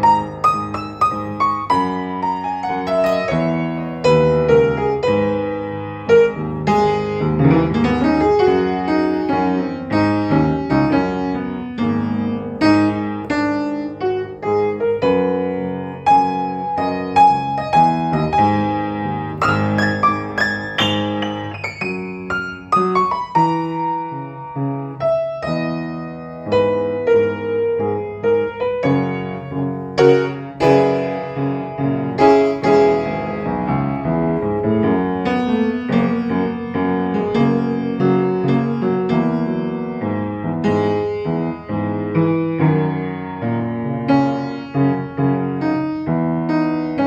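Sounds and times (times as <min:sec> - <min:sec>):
upright piano playing: 0:00.0 - 0:47.0.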